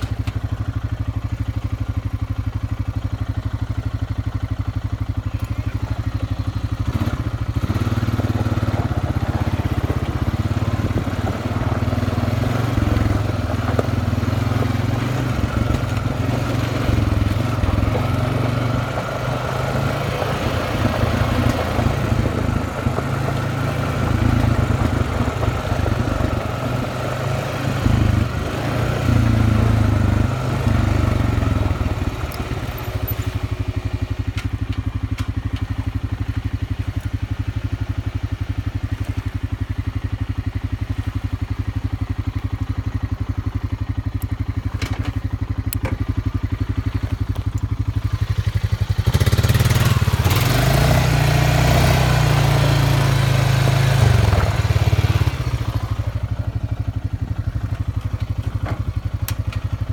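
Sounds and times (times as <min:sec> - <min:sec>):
quad engine revving and idling: 0:00.0 - 0:59.9
tyres on gravel: 0:00.0 - 0:59.9.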